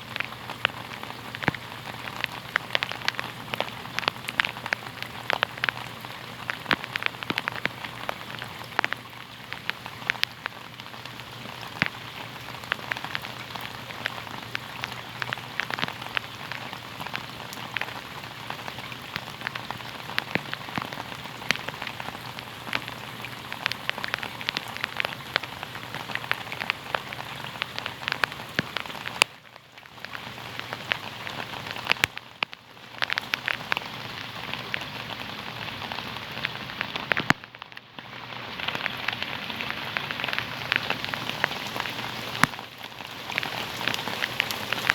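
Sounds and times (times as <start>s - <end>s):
rain on a hard surface: 0.0s - 44.9s
sharp raindrop ticks: 0.0s - 44.9s.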